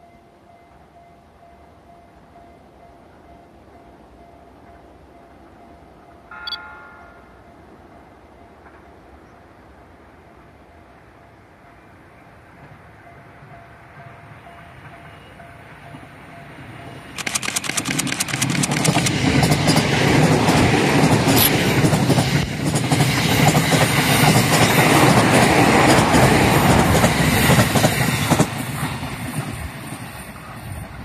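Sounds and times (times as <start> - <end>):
electric train passing: 0.0 - 31.0.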